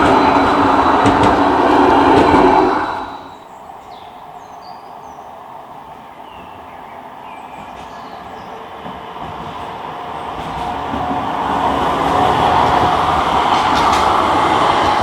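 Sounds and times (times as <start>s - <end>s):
tram passing on rails: 0.0s - 15.0s.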